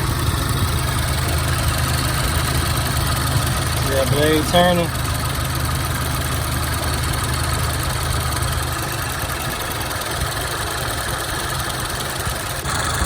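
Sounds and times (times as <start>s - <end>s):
car engine idling: 0.0s - 13.0s
radiator cooling fan running: 0.0s - 13.0s.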